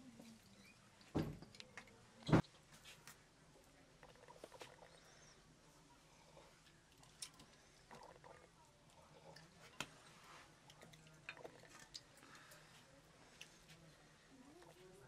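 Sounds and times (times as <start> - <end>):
faint clicks and taps of clay bowls: 0.0 - 5.0, 6.4 - 13.9.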